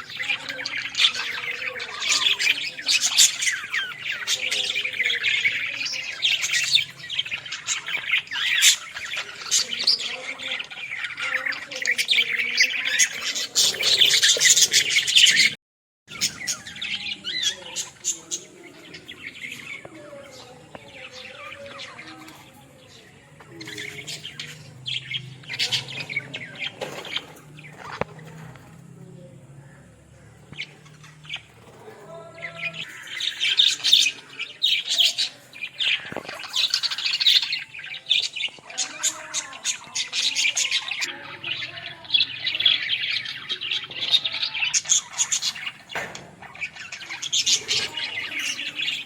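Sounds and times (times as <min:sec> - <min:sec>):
budgerigars chirping and warbling: 0:00.0 - 0:49.0.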